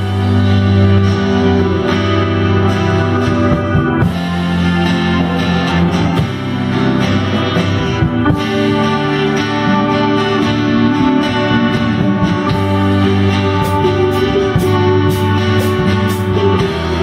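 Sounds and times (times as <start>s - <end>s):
electric guitar chords: 0.0s - 17.0s
live rock band music: 0.0s - 17.0s.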